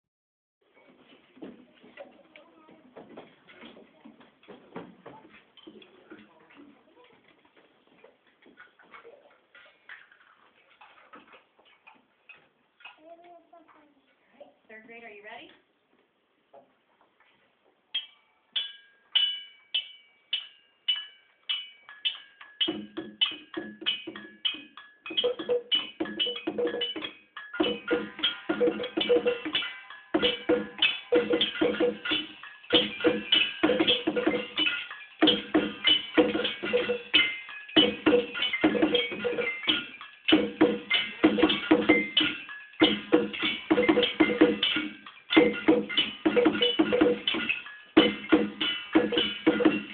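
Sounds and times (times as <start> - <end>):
percussion on found objects: 0.7 - 13.4, 17.8 - 49.9.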